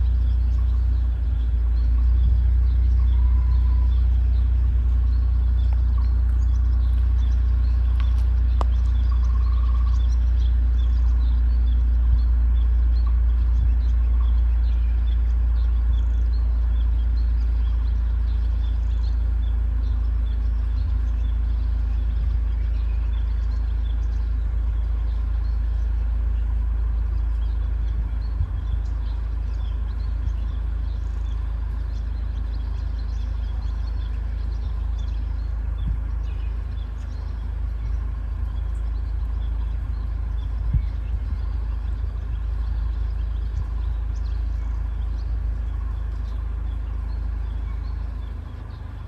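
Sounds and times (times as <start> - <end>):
loud steady low rumble: 0.0 - 49.0
small birds chirping: 0.0 - 49.0.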